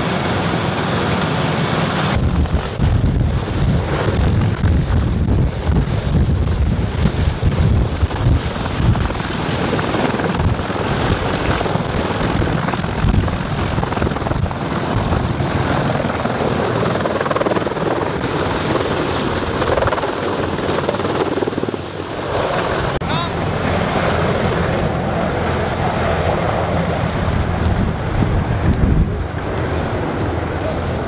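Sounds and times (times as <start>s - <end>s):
rotor wash buffeting microphone: 0.0s - 16.5s, 17.1s - 31.0s
helicopter rotor and engine: 0.0s - 31.0s.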